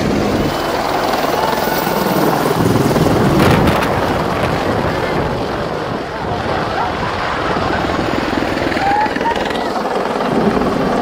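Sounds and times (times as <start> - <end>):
helicopter rotor blades beating: 0.0 - 11.0.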